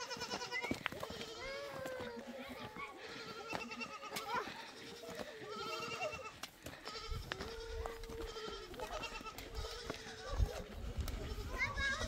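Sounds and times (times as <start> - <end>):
goats bleating: 0.0 - 12.0.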